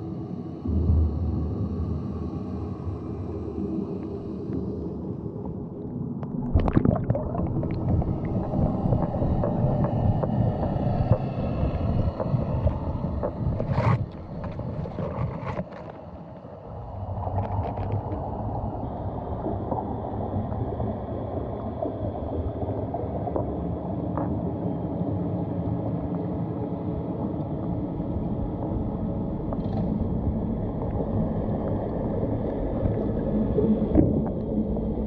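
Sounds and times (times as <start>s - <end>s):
underwater rumble of water: 0.0s - 35.0s.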